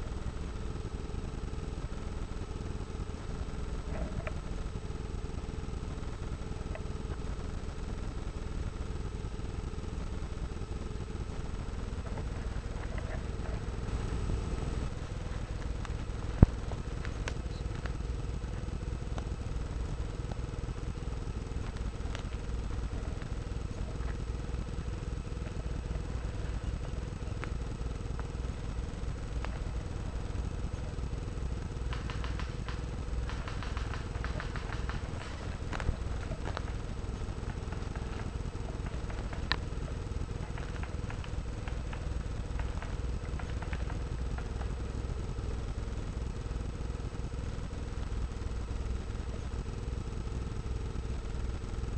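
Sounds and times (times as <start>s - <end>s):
low rumble of handling noise: 0.0s - 51.9s.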